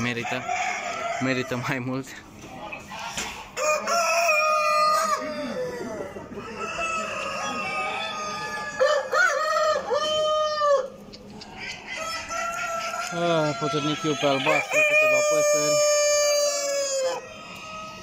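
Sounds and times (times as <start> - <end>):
roosters crowing: 0.0 - 18.0.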